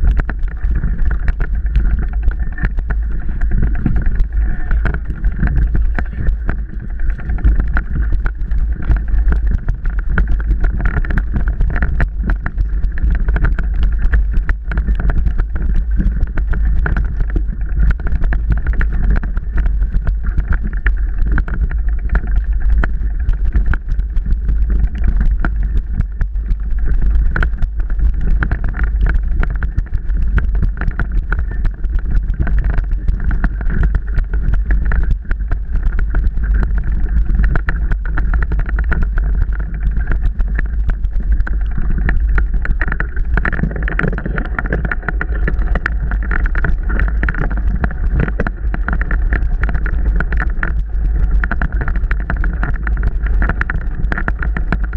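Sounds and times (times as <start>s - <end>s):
bike clattering and rattling: 0.0s - 54.9s
wind on microphone: 0.0s - 54.9s.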